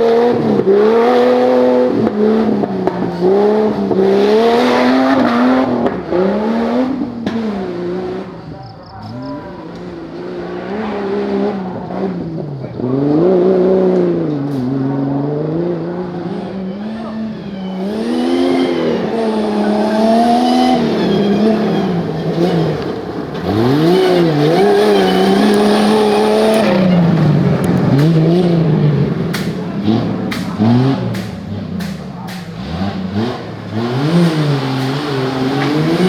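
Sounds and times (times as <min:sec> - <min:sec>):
off-road engine revving: 0:00.0 - 0:36.0.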